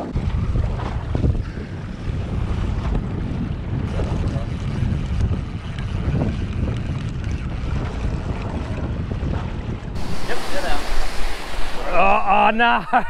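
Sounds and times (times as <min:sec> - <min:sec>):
boat under way at sea: 0:00.0 - 0:13.0
wind buffeting microphone: 0:00.0 - 0:13.0.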